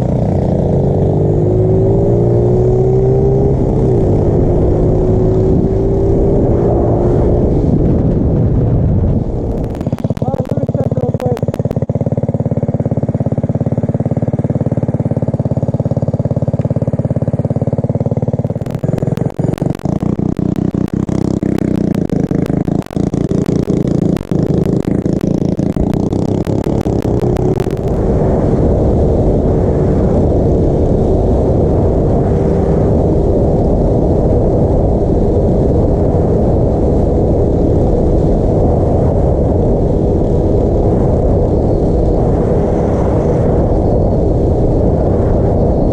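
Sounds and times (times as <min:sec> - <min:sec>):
small motorbike engine running: 0:00.0 - 0:08.8, 0:09.4 - 0:45.9.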